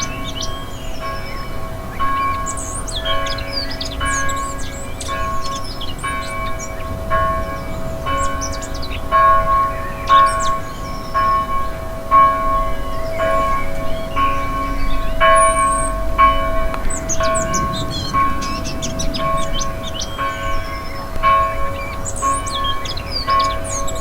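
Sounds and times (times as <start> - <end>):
church bell tolling: 0.0 - 24.0
small birds chirping: 0.0 - 24.0.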